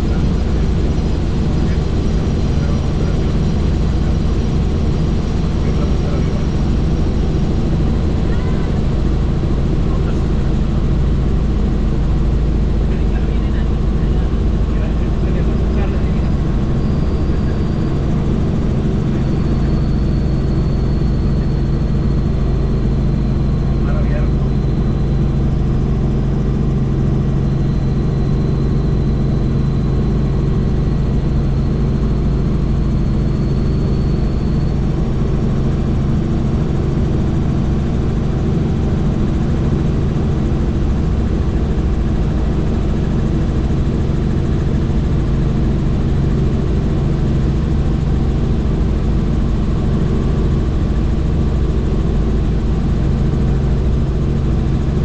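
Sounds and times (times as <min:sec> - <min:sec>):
faint high whine: 0:00.0 - 0:55.0
helicopter engine and rotor drone: 0:00.0 - 0:55.0.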